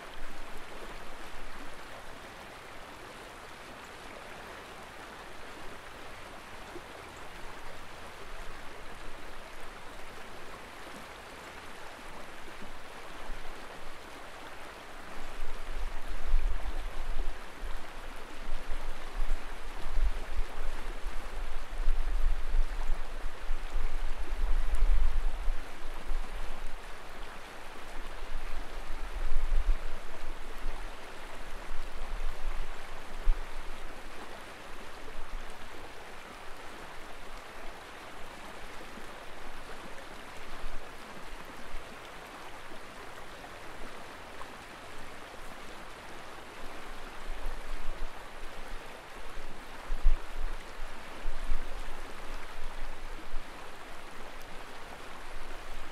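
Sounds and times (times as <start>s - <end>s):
flowing river water: 0.0s - 55.9s.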